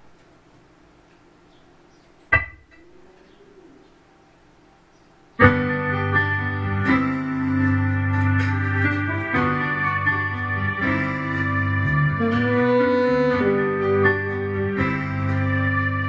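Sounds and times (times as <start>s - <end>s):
keyboard backing track: 1.6s - 16.0s.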